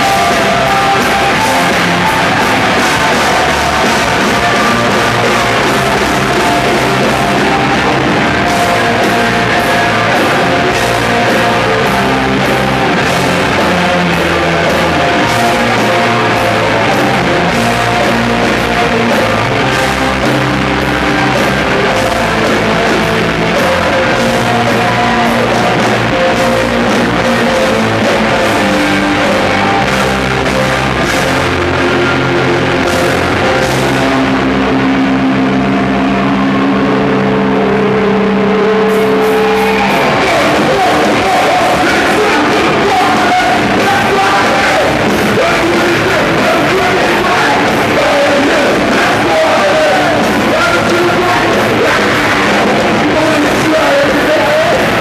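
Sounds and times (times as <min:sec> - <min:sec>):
distorted electric guitars: 0:00.0 - 0:55.0
drums: 0:00.0 - 0:55.0
person singing: 0:00.0 - 0:55.0.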